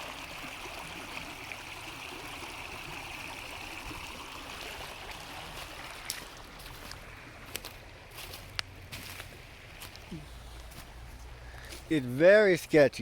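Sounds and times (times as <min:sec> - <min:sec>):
creek water rushing: 0:00.0 - 0:12.9.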